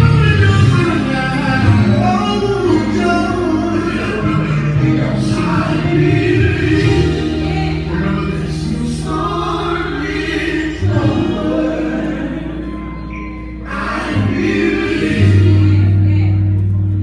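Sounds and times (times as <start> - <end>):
choir singing gospel song: 0.0 - 16.6
sustained low instrumental notes: 0.0 - 17.0.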